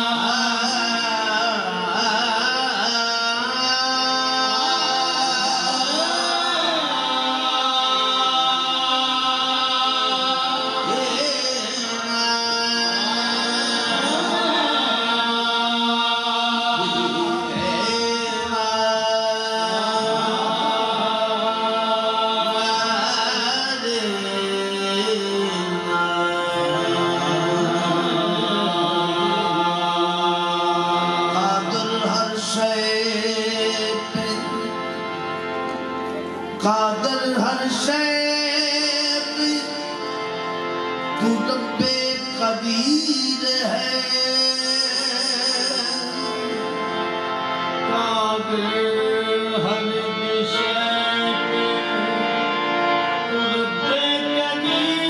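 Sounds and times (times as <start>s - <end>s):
men singing: 0.0s - 35.0s, 36.6s - 55.0s
harmonium chords: 0.0s - 55.0s.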